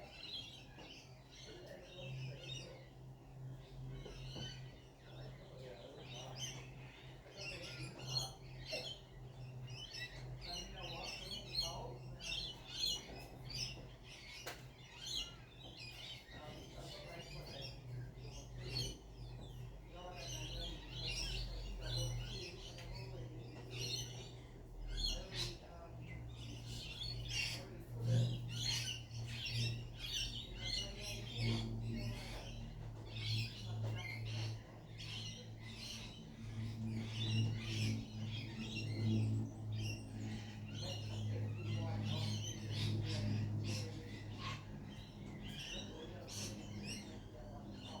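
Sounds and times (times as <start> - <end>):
birds chirping in chorus: 0.0 - 48.0
steady low hum: 0.0 - 48.0.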